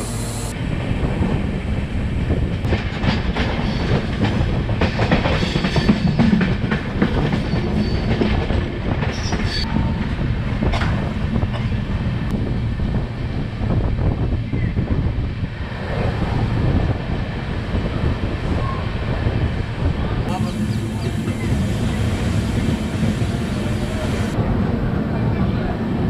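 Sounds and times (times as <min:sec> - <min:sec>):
train rumbling at speed: 0:00.0 - 0:26.0.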